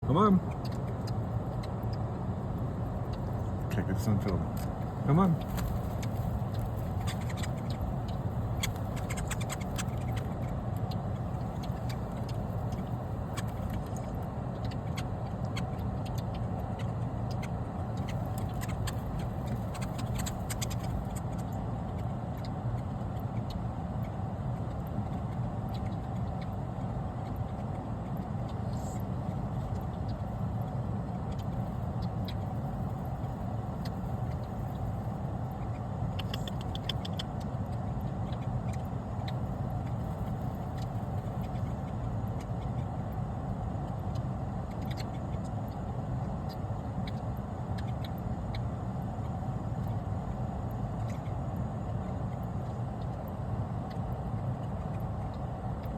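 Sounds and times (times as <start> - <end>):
faint clicks and ticks: 0.0 - 55.9
steady low rumble: 0.0 - 55.9.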